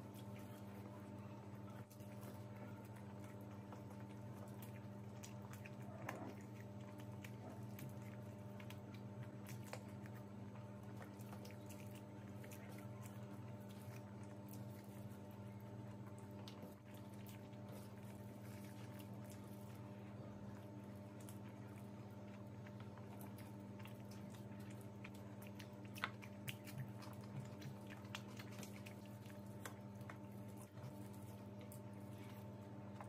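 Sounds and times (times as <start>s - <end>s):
steady low hum: 0.0s - 33.0s
wet chewing mouth sounds: 0.0s - 33.0s.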